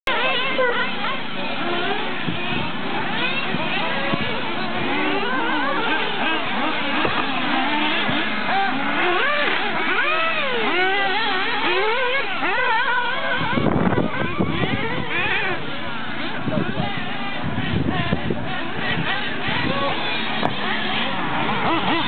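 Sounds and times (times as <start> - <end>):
rc car engines revving: 0.1 - 22.0
rough rushing noise: 0.8 - 22.0.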